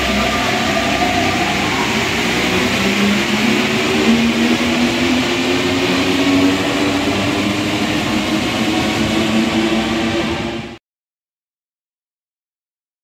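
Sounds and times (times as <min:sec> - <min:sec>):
train motor hum: 0:00.0 - 0:10.8
train rolling hiss: 0:00.0 - 0:10.8.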